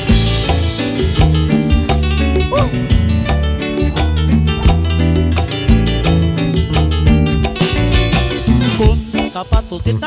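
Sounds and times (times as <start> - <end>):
bass and drums beat: 0.0 - 10.0
instrumental band music: 0.0 - 10.0.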